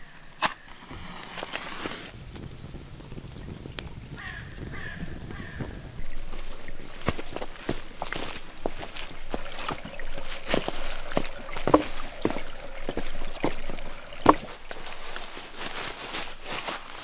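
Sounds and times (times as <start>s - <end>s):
stream trickling over stones: 0.2s - 17.0s
footsteps on leaves and rocks: 0.7s - 2.2s, 4.2s - 17.0s.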